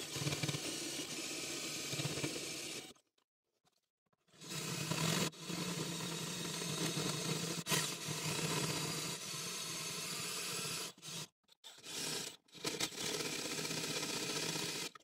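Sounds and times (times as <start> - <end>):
cordless drill grinding metal: 0.0 - 3.0, 4.3 - 15.0.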